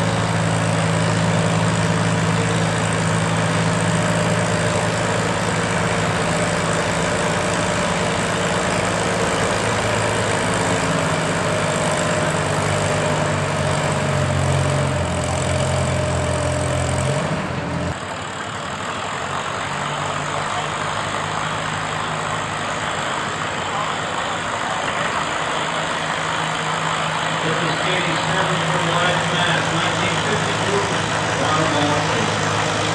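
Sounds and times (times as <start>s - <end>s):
tractor engine running: 0.0s - 32.9s.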